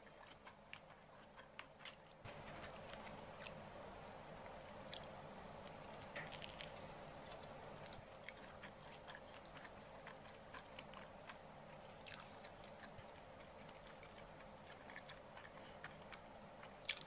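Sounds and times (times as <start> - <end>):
chewing clicks: 0.0 - 3.6, 4.9 - 17.0.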